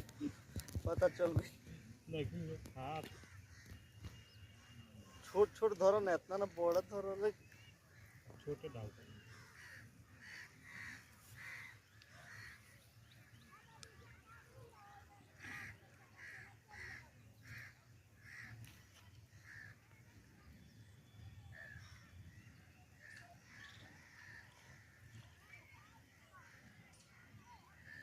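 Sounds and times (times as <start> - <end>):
crows cawing faintly: 2.6 - 13.8, 14.4 - 20.0, 21.5 - 22.2, 23.0 - 28.0.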